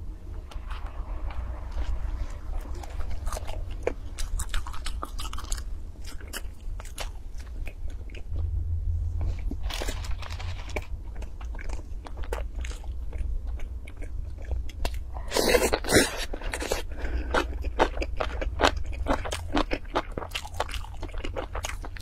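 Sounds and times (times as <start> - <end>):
low steady hum: 0.0 - 22.0
person chewing food: 0.4 - 8.5, 9.2 - 22.0.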